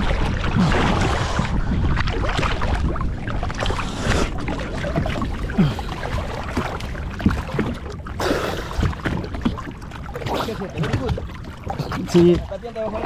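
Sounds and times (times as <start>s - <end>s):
waves splashing against boat hull: 0.0s - 13.0s.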